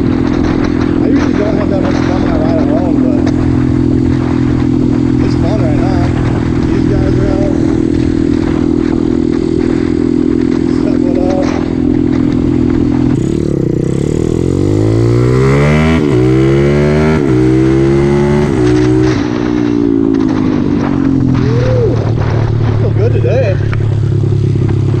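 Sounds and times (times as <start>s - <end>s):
motorbike engine accelerating: 0.0s - 25.0s
wind buffeting microphone: 0.0s - 25.0s.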